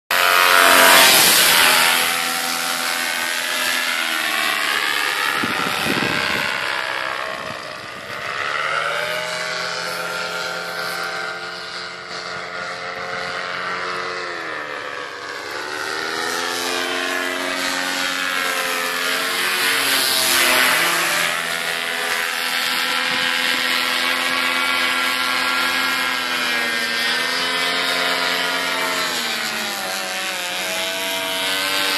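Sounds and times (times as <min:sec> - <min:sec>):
paramotor engine running: 0:00.1 - 0:31.9.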